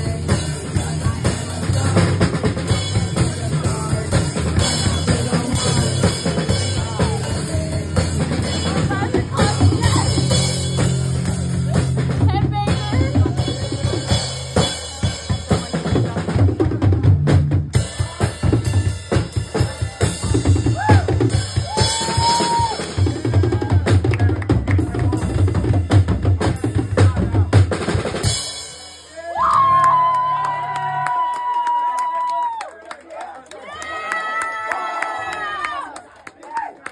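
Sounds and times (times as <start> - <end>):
rock band playing: 0.0 - 31.4.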